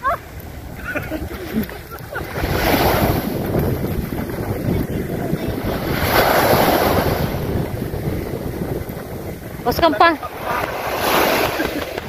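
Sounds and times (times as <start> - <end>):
sea waves washing on sand: 0.0 - 12.0
wind buffeting the microphone: 0.0 - 12.0.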